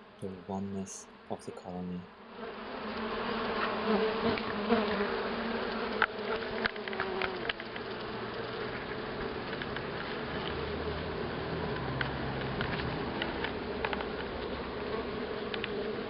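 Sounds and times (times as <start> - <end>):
honeybees buzzing: 0.2 - 16.0.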